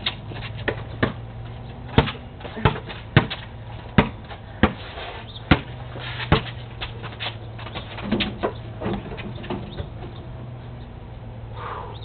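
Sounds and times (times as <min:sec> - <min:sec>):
basketball bouncing on concrete: 0:00.0 - 0:10.2.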